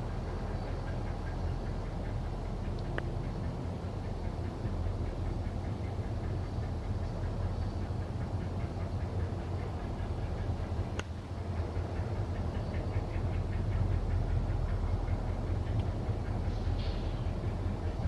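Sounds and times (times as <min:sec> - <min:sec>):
diesel locomotives rumbling: 0:00.0 - 0:18.0.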